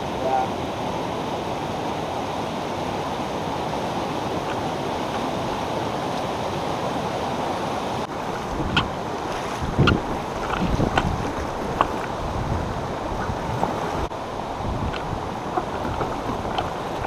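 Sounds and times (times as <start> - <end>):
water rushing over logs: 0.0 - 17.0.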